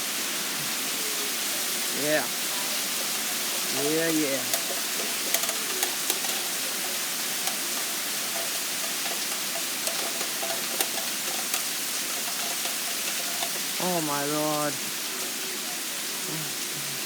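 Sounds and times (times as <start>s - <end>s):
heavy rain pouring: 0.0s - 17.0s
raindrops tapping close by: 2.0s - 17.0s.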